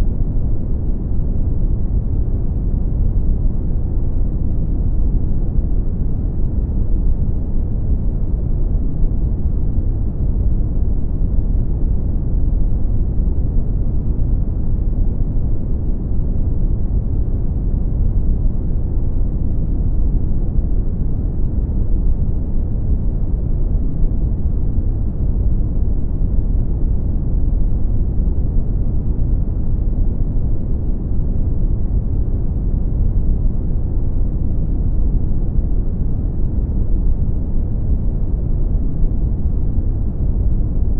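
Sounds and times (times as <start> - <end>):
brown noise rumble: 0.0 - 40.9.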